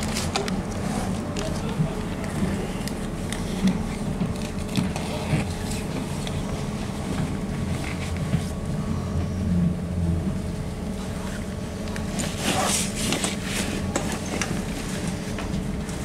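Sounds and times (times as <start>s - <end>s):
constant hum: 0.0s - 16.0s
trolleybus low rumble: 0.0s - 16.0s.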